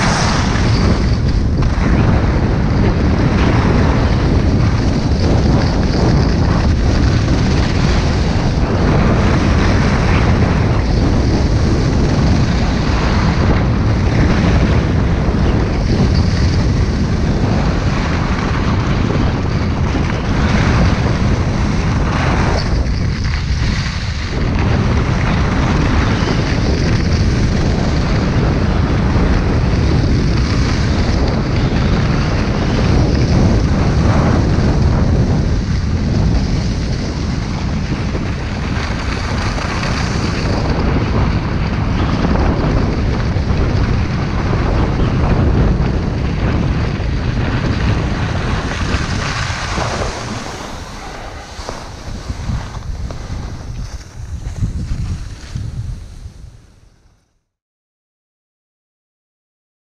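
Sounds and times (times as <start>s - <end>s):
skis scraping over snow: 0.0s - 57.3s
wind rushing over microphone: 0.0s - 57.6s.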